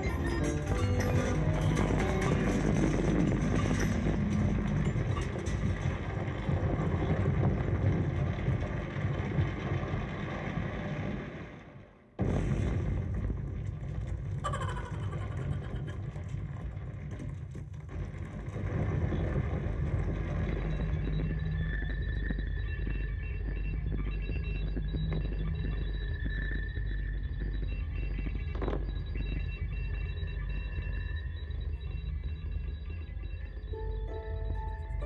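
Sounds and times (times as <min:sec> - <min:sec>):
low rumbling sound effects: 0:00.0 - 0:35.0.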